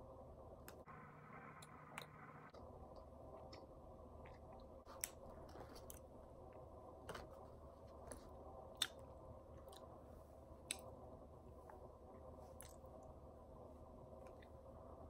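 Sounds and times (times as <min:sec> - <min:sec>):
faint cookie chewing: 0:01.9 - 0:14.8.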